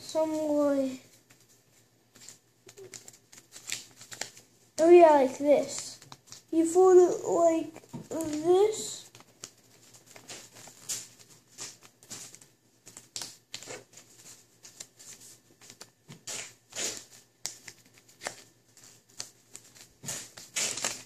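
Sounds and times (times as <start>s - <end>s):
paper being folded and creased: 0.0s - 21.0s.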